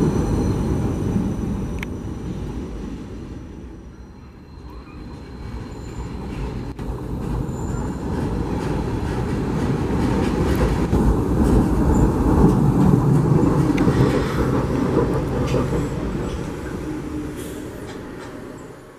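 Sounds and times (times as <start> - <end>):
subway train wheels rumbling: 0.0 - 18.9.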